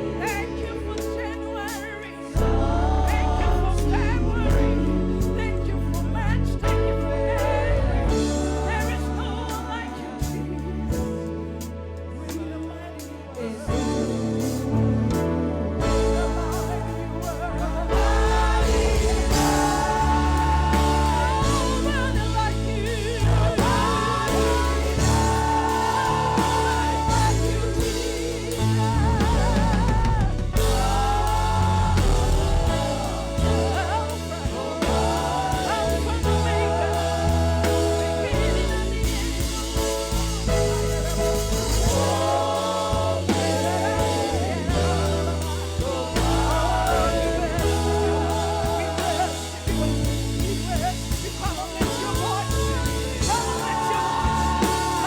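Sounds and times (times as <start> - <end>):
band with drums and bass: 0.0 - 55.0
person singing with vibrato: 0.0 - 55.0.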